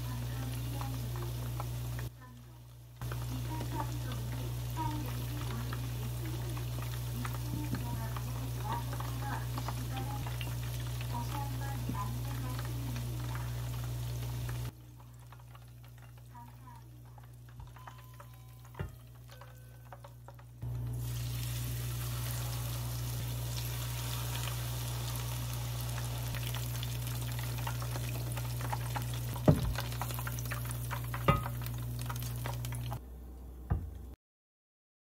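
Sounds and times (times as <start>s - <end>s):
oil sizzling while deep-frying: 0.0s - 33.0s.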